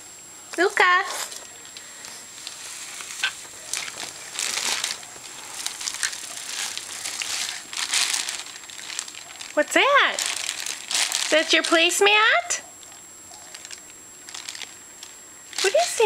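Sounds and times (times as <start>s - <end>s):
plastic packaging crinkling: 1.1s - 16.0s.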